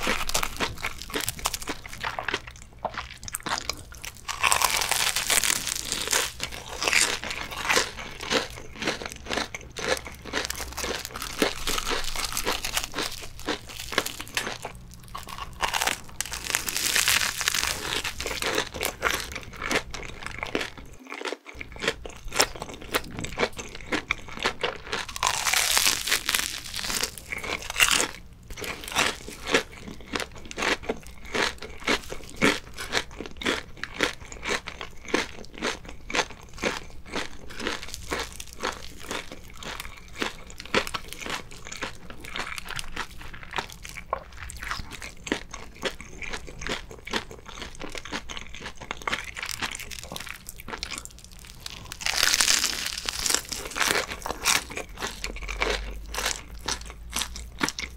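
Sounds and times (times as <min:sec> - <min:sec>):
chewing: 0:00.0 - 0:57.9
crunching crisp crust: 0:00.0 - 0:57.9.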